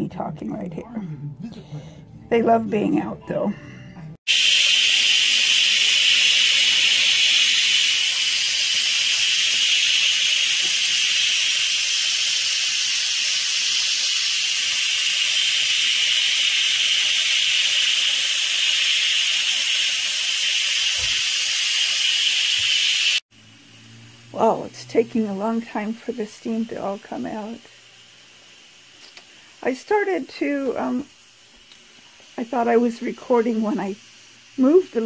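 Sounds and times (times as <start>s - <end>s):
pressure cooker steam hiss: 4.3s - 35.0s.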